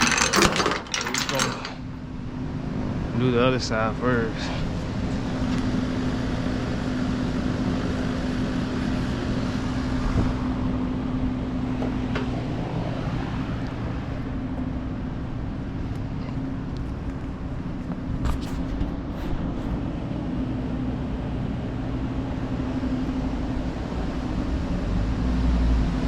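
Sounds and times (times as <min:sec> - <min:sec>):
vehicle engine running: 0:01.7 - 0:26.0.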